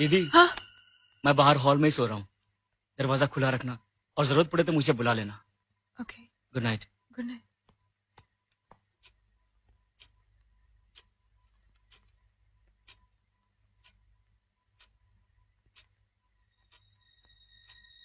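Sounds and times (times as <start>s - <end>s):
faint clock ticking: 0.0s - 18.0s.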